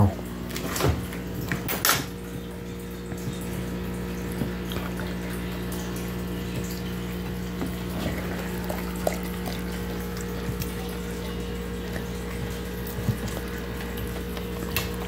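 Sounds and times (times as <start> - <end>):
dog chewing and licking: 0.6 - 15.0.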